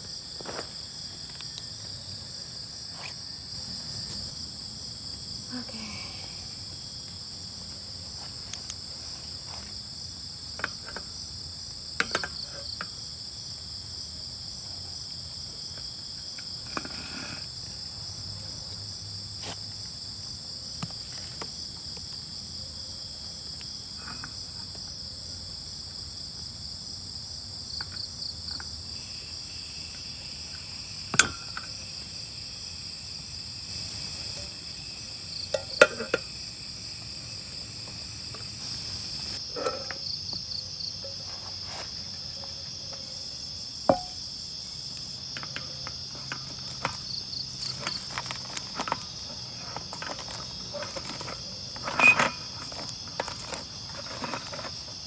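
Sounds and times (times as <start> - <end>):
night insects chirring: 0.0 - 55.0.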